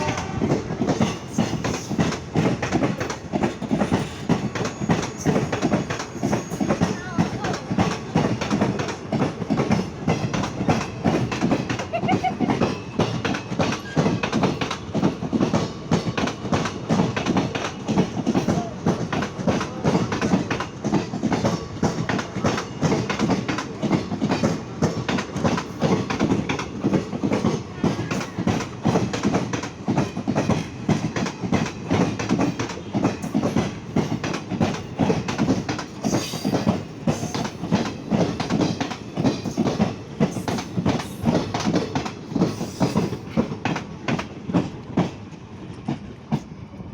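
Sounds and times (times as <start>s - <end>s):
train wheels clattering over rail joints: 0.0s - 46.5s.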